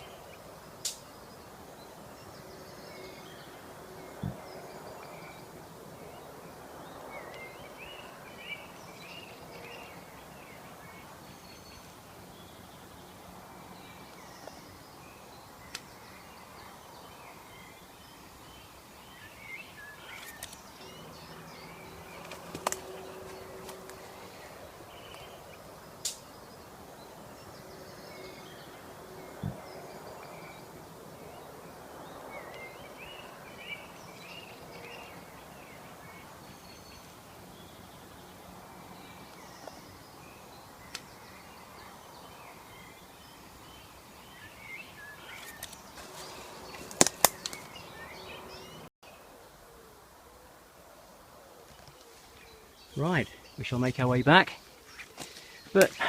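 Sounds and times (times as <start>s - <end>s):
background hiss: 0.0s - 56.0s
birds chirping: 0.0s - 56.0s.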